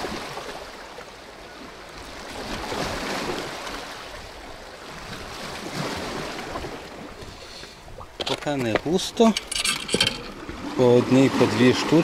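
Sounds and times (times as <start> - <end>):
sea waves washing over boulders: 0.0 - 12.0.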